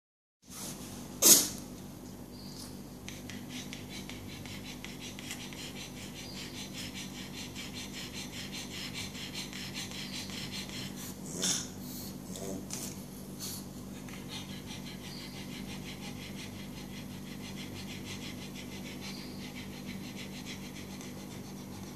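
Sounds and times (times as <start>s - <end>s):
dog panting rapidly: 3.1s - 12.7s, 13.4s - 21.9s.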